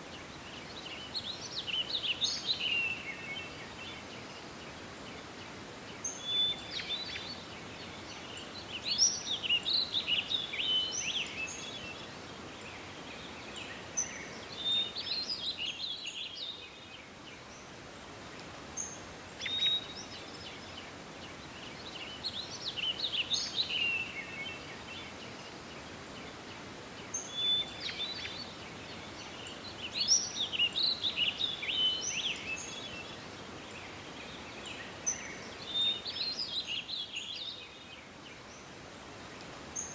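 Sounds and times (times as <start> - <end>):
background hiss: 0.0 - 39.9
birds chirping and warbling: 0.0 - 39.9.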